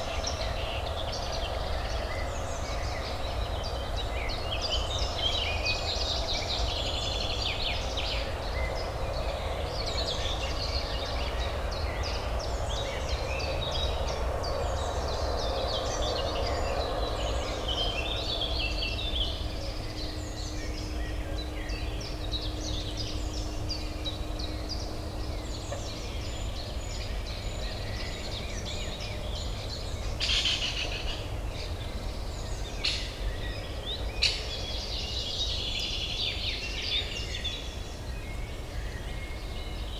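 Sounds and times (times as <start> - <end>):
low urban hum: 0.0 - 39.9.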